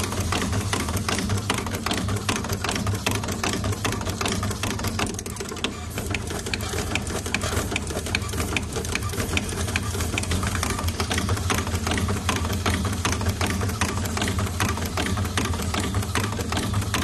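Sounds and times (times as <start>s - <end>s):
rapid mechanical clicking: 0.0s - 17.0s.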